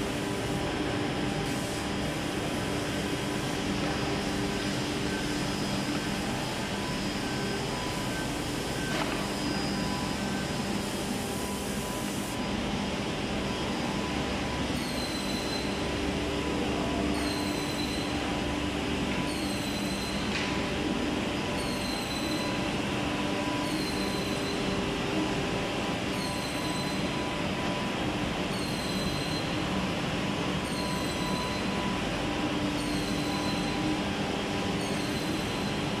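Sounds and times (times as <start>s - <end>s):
machine motors humming: 0.0s - 36.0s.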